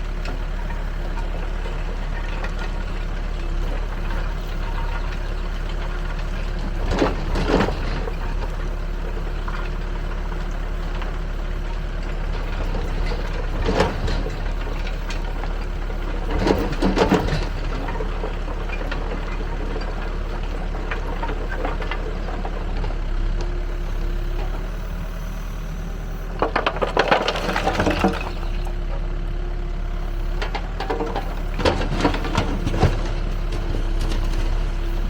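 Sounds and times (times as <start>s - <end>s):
backhoe engine running: 0.0s - 35.0s.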